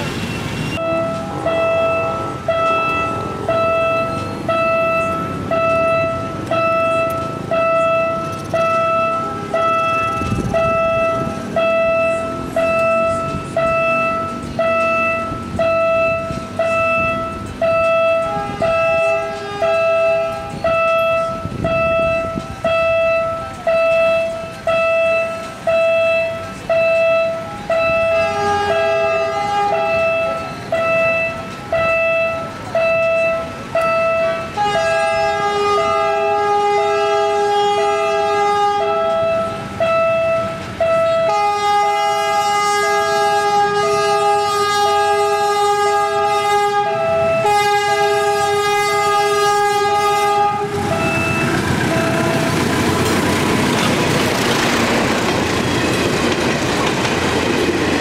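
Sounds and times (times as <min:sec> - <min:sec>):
level crossing alarm beeping: 0:00.0 - 0:58.0
horn sounding: 0:00.4 - 0:58.0.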